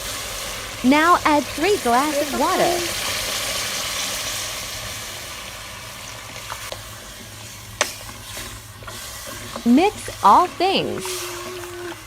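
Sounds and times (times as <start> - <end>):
oil sizzling in a pot: 0.0 - 12.0.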